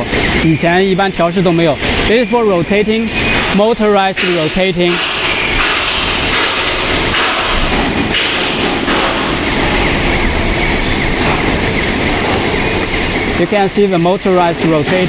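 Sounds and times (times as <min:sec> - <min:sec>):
mechanical rumble and clatter: 0:00.0 - 0:15.0.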